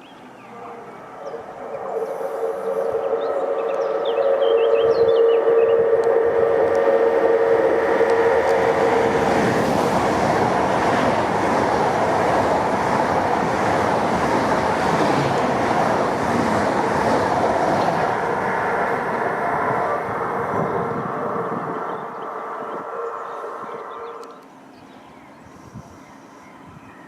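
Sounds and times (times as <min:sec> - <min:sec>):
steady whine: 0:00.0 - 0:24.6
train wheels rolling on rail: 0:01.4 - 0:24.7.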